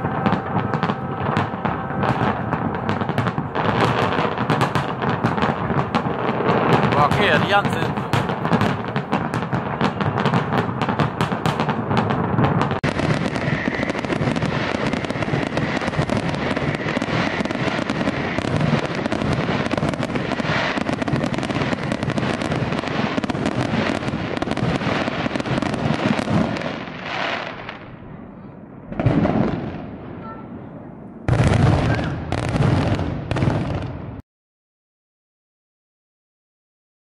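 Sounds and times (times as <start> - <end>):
fireworks crackling and popping: 0.0 - 28.0, 28.8 - 30.5, 31.3 - 34.2.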